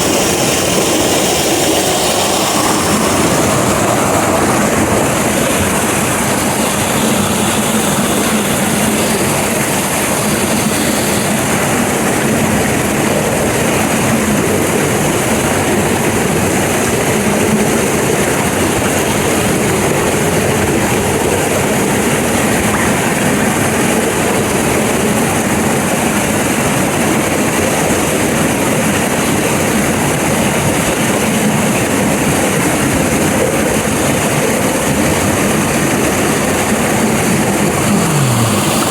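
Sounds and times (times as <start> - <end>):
waterfall rushing: 0.0 - 27.6, 32.9 - 38.9.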